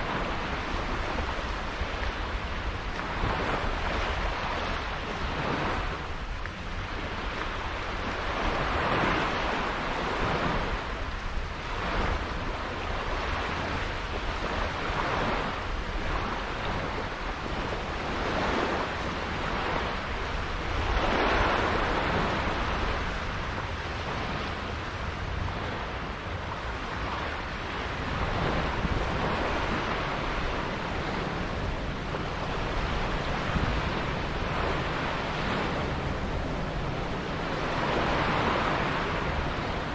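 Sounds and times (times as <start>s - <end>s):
sea water rushing and splashing: 0.0s - 39.9s
wind rumbling on microphone: 0.0s - 39.9s.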